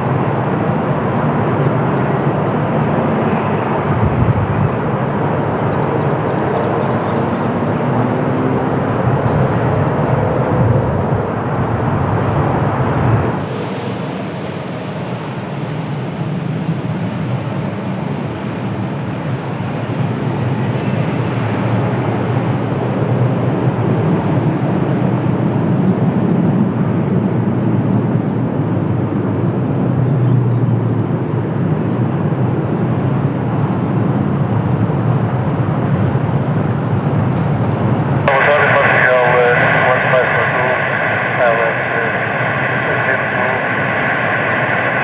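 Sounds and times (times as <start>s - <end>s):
jet engines rushing: 0.0s - 13.6s, 19.0s - 45.0s.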